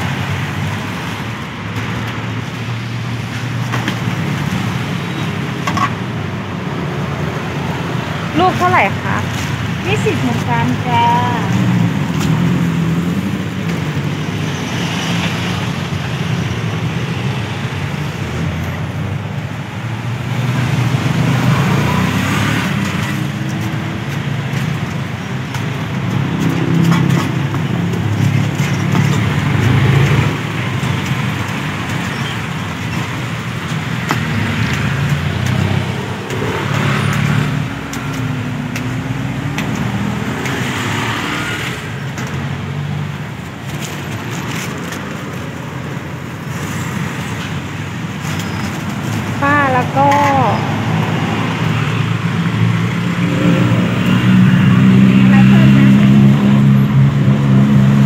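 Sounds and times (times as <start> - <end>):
cars passing: 0.0 - 58.0
motorbikes passing: 0.0 - 58.0.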